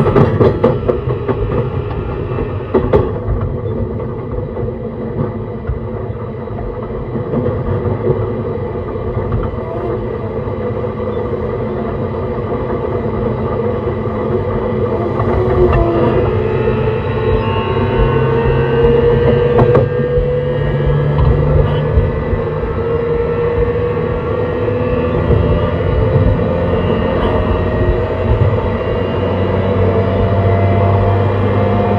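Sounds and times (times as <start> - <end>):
train wheels rumbling: 0.0 - 31.9.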